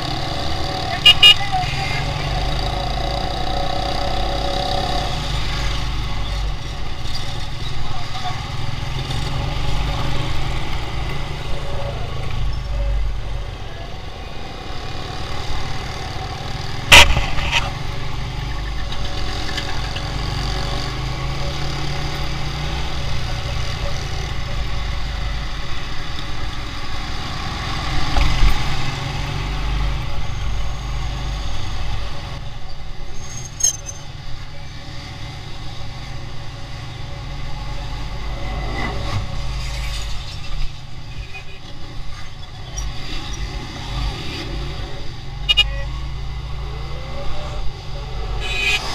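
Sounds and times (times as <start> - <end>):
road noise: 0.0 - 48.9.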